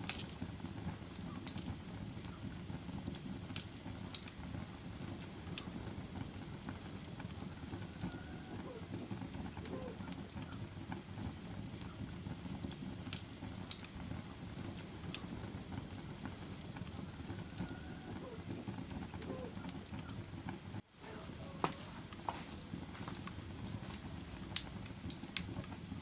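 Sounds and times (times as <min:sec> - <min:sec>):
sharp pops from fire: 0:00.0 - 0:20.8, 0:21.6 - 0:26.0
wood fire crackling: 0:00.0 - 0:26.0.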